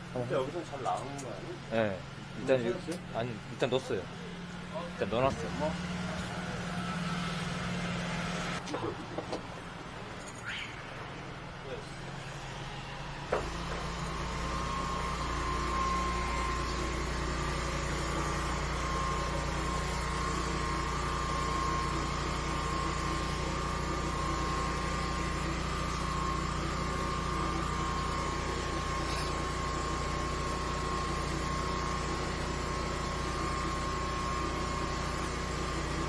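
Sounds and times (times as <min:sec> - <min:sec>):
sewer jetter drone and whine: 0:00.0 - 0:36.0.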